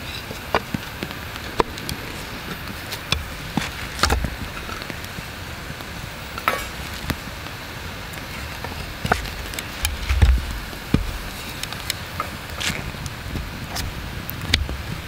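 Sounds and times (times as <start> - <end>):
low hiss and rumble: 0.0 - 15.0.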